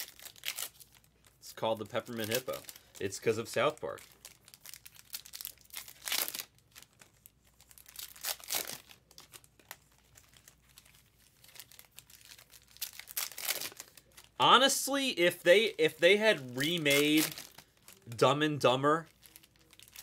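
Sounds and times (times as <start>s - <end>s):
cards rustling: 0.0s - 20.0s
foil wrappers crinkling and tearing: 0.0s - 20.0s.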